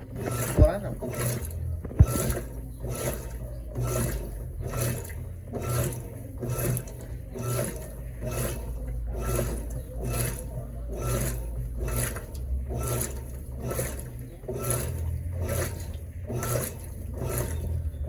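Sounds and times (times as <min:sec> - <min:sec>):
washing machine agitator swishing: 0:00.0 - 0:18.0
washing machine low hum: 0:00.0 - 0:18.0.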